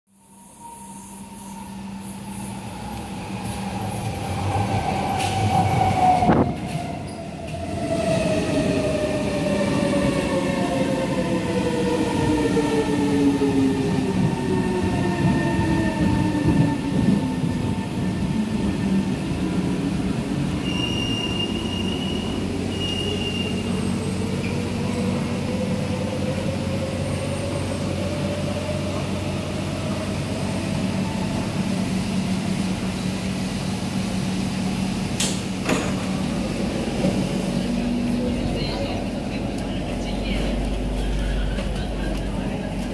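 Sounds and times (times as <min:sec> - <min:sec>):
train low hum: 0:00.1 - 0:42.9.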